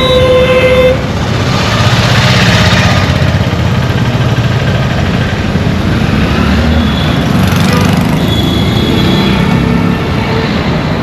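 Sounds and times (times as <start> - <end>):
passing road noise: 0.0 - 11.0
vehicle engines rumbling: 0.0 - 11.0.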